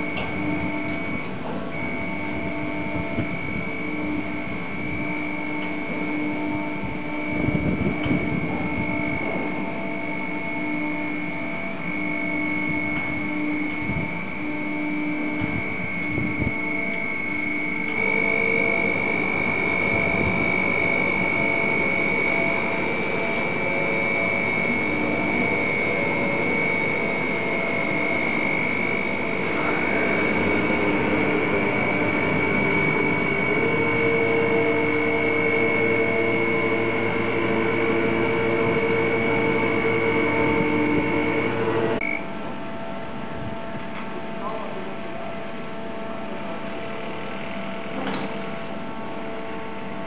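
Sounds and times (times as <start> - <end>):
crane hoist motor whine: 0.0 - 50.0.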